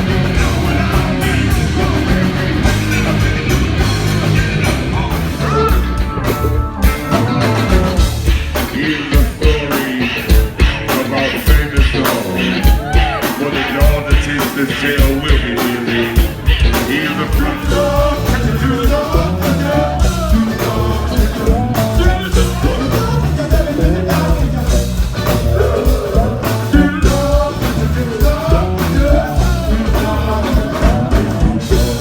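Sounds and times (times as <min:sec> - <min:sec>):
person singing: 0:00.0 - 0:07.6, 0:08.5 - 0:32.0
live funk band: 0:00.0 - 0:32.0.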